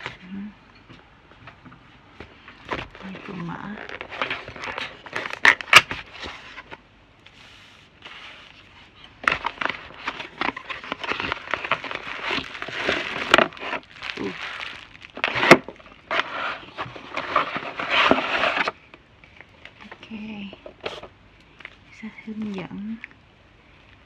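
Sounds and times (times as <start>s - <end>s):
packaging crinkling and rustling: 2.4s - 21.8s.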